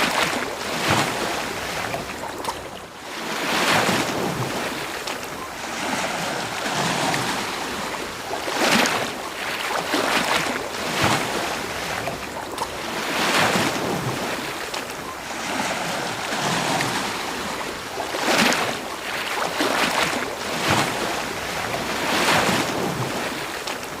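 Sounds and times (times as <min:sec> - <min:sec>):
ocean waves on beach: 0:00.0 - 0:24.0.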